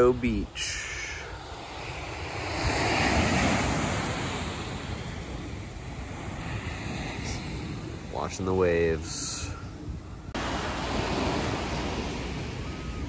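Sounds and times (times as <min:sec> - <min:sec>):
surf waves crashing on beach: 0:00.0 - 0:13.0.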